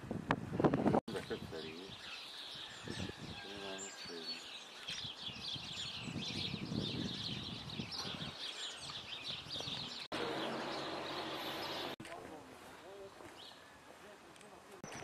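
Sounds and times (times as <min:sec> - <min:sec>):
songbirds chirping chorus: 0:01.1 - 0:12.0, 0:12.6 - 0:15.0.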